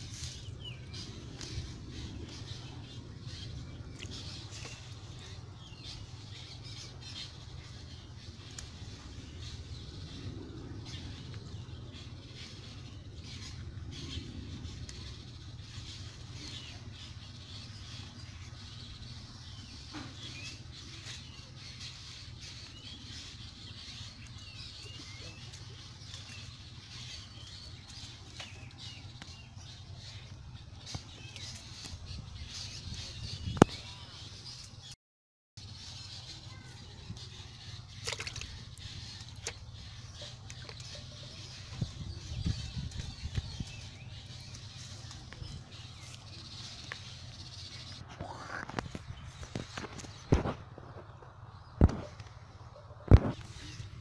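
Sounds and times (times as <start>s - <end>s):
steady low rumble: 0.0s - 34.8s, 35.6s - 54.0s
small birds chirping: 0.0s - 35.0s, 35.6s - 54.0s.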